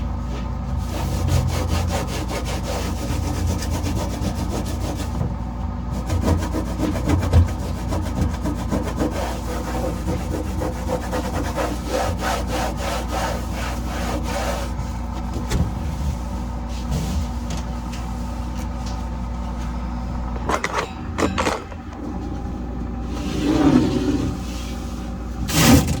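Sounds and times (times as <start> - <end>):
steady low hum: 0.0 - 26.0
cloth scrubbing fridge surface: 0.2 - 18.8, 22.0 - 26.0.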